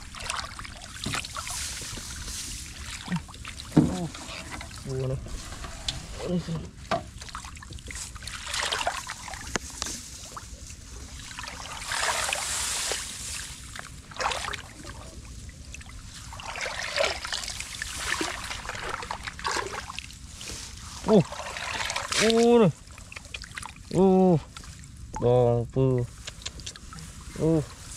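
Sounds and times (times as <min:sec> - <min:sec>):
water splashing and sloshing: 0:00.0 - 0:27.9.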